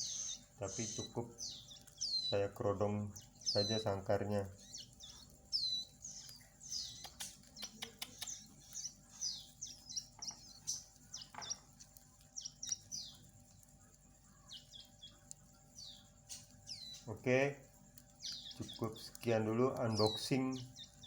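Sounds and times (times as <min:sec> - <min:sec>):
nestling birds chirping: 0:00.0 - 0:21.0.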